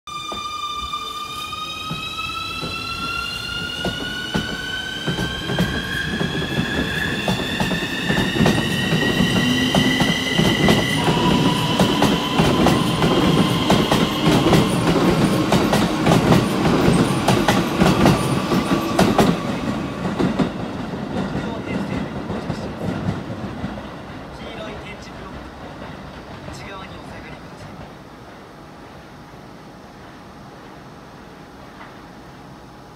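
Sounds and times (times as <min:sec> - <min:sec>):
train rumble: 0:00.2 - 0:32.8.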